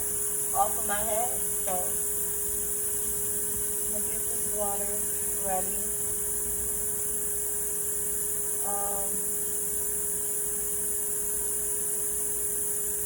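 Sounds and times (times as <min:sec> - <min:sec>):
electrical hum: 0:00.0 - 0:13.0
high hiss: 0:00.0 - 0:13.0.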